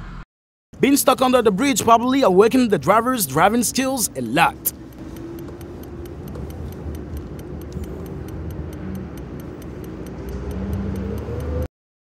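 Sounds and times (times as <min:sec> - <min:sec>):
low road rumble: 0:00.8 - 0:11.7
car indicator ticking: 0:01.2 - 0:11.7.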